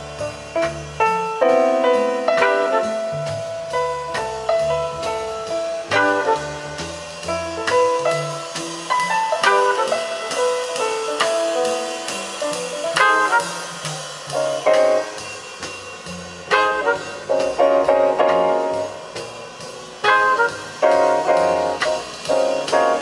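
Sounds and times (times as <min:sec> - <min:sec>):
instrumental music over loudspeakers: 0:00.0 - 0:23.0.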